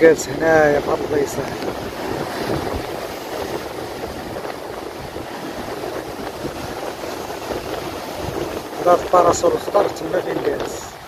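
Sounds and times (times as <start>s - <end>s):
surf breaking over rocks: 0.0s - 11.0s
wind buffeting microphone: 0.0s - 11.0s.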